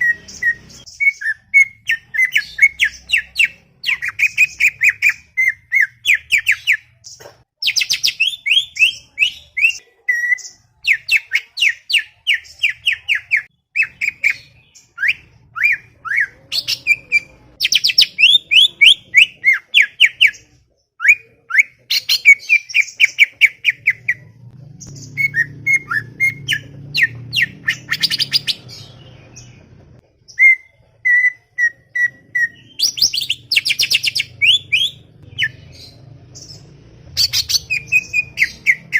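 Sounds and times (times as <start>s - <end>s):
bird singing chattering song: 0.0s - 38.9s.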